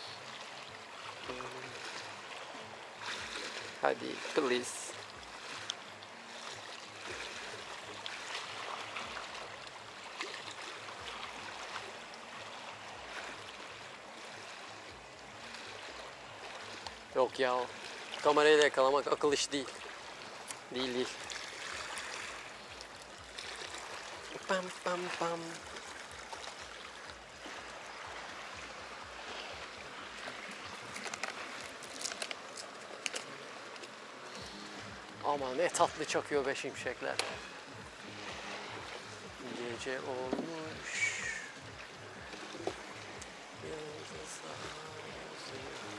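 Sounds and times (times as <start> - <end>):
small waves washing on beach: 0.0 - 45.9.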